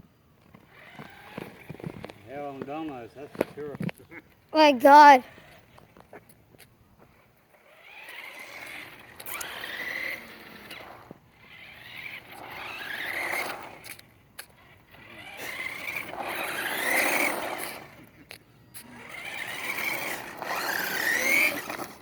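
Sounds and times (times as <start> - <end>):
toy truck electric motor whining: 0.4 - 3.6, 4.9 - 6.0, 7.0 - 22.0.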